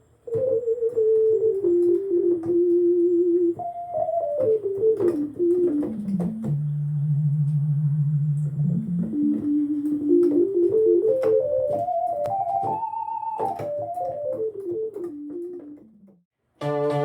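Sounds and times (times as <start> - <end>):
synthesizer keyboard scale run: 0.0 - 17.0.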